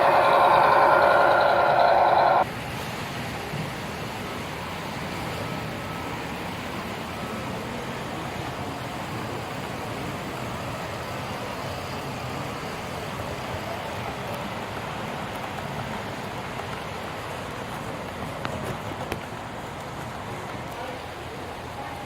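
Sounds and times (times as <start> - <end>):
model train running on rails: 0.0 - 22.0.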